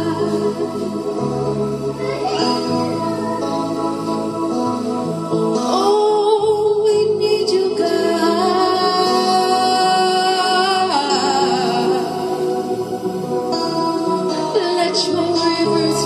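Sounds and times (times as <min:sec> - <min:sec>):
worship singers with vibrato: 0:00.0 - 0:16.0.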